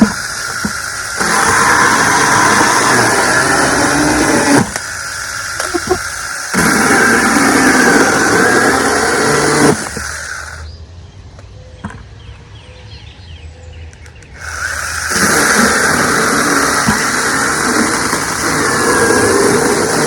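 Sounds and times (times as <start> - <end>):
electric chainsaw cutting branch: 0.0 - 10.7, 14.2 - 20.0.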